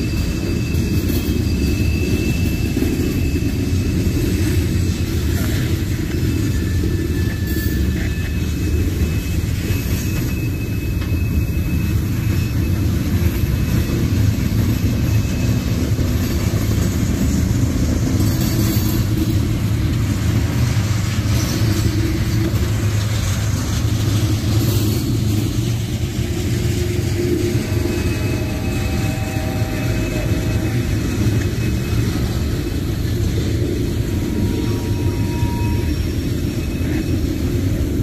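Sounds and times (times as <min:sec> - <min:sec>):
steel wheels rumbling on rails: 0:00.0 - 0:38.0.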